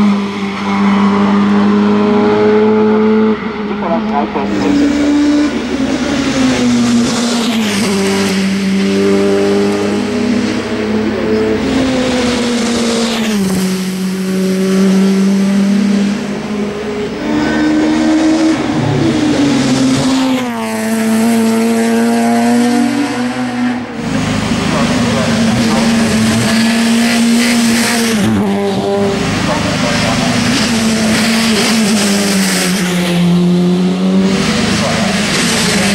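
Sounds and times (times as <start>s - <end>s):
racing car engine at high revs: 0.0s - 35.9s.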